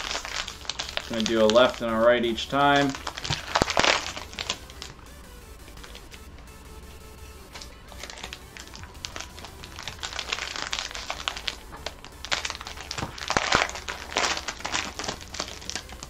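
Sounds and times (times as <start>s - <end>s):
cellophane wrappers crinkling and tearing: 0.0s - 6.1s, 7.5s - 16.0s.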